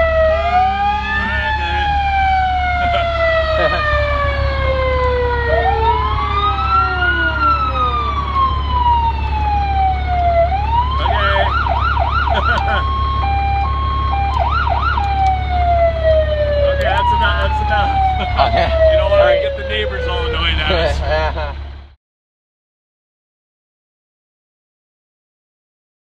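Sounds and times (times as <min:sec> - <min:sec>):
electronic siren wailing and yelping: 0:00.0 - 0:21.5
steady low hum: 0:00.0 - 0:21.9.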